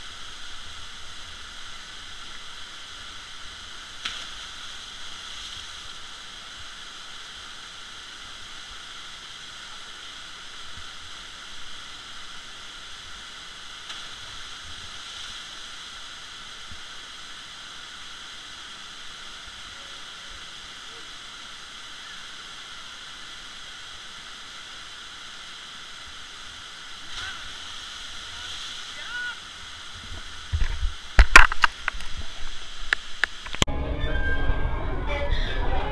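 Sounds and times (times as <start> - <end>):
rushing water hiss: 0.0 - 33.7.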